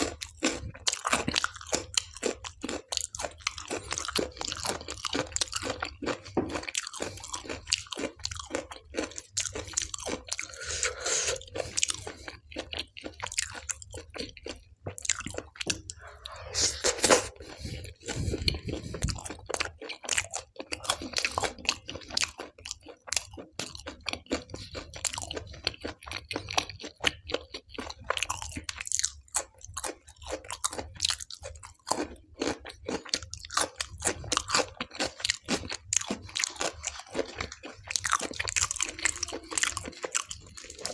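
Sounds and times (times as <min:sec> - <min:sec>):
wet chewing and crunching: 0:00.0 - 0:40.9.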